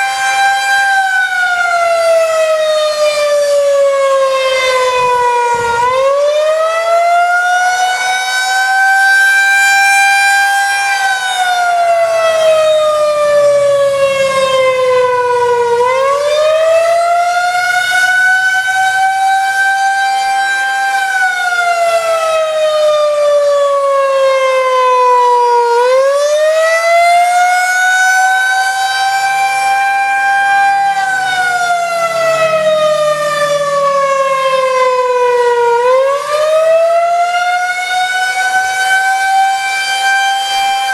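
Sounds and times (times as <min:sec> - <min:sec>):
outdoor warning siren wailing: 0:00.0 - 0:40.9.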